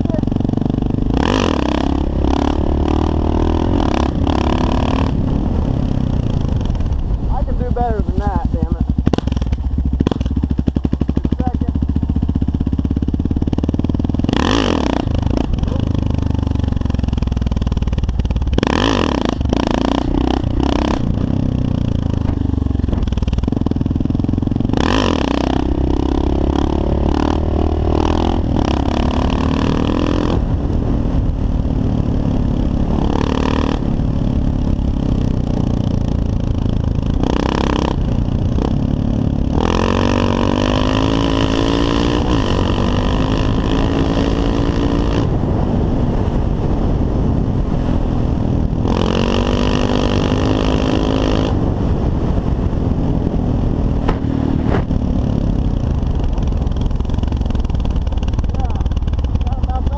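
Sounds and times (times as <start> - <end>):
motorcycle engine revving: 0.0 - 59.9
wind buffeting microphone: 0.0 - 59.9.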